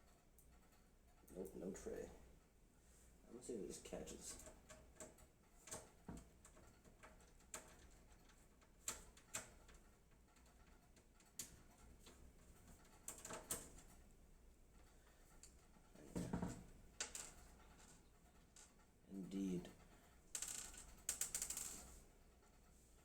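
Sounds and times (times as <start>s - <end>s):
faint clicks of handling screws: 4.2s - 23.0s.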